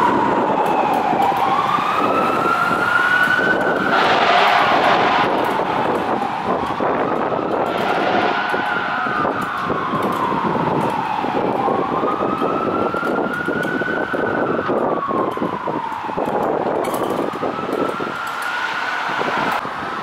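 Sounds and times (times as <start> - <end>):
fire truck siren wailing: 0.0 - 20.0
road traffic rumble: 0.0 - 20.0.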